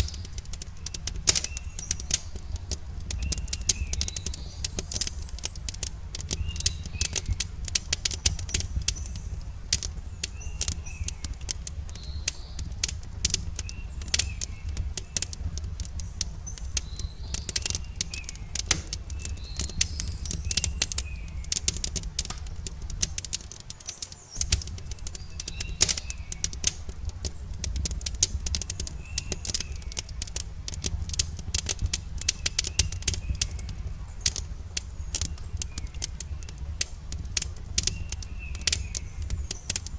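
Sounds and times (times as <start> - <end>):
campfire crackling: 0.0 - 39.9
low rumble of burning wood: 0.0 - 39.9.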